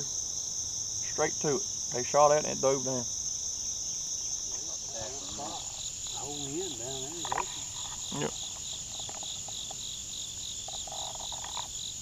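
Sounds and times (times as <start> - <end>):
insect trill pulsing: 0.0 - 12.0
insects buzzing: 0.0 - 12.0.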